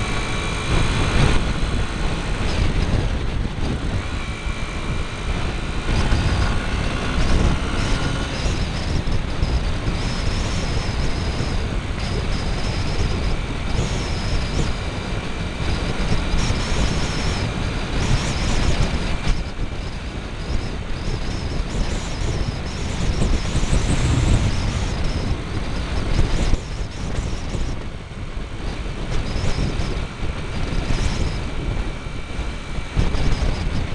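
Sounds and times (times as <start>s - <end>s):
motorcycle engine: 0.0s - 33.9s
wind buffeting: 0.0s - 33.9s.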